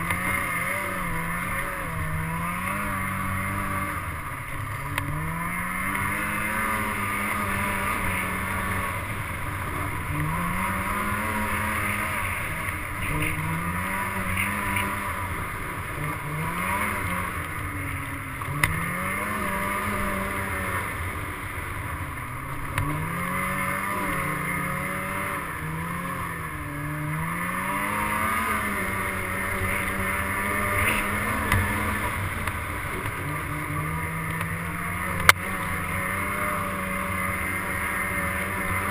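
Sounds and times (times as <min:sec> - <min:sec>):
off-road vehicle engine revving: 0:00.0 - 0:38.9
rush of travel: 0:00.0 - 0:38.9.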